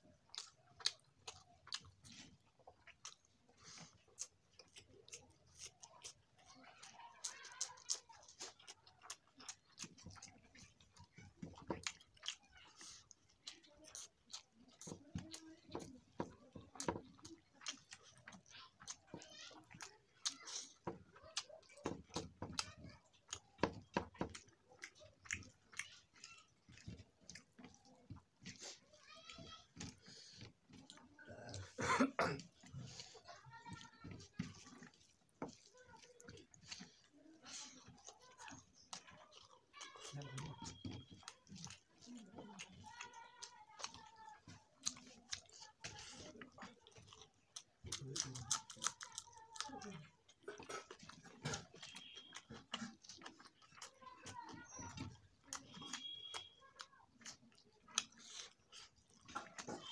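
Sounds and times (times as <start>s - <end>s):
wet chewing smacks: 0.0s - 59.9s.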